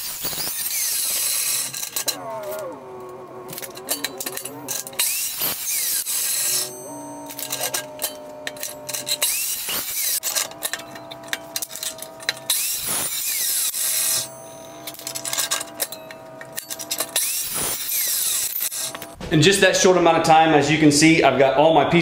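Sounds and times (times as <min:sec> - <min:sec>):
saw blade whining: 0:00.0 - 0:19.2
saw cutting steel: 0:00.0 - 0:19.2.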